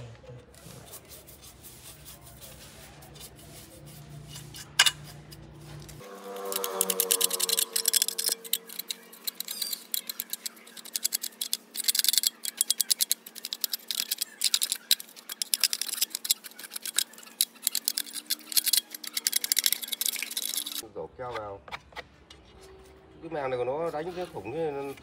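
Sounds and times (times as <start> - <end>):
brush scrubbing and scraping: 0.4 - 20.8.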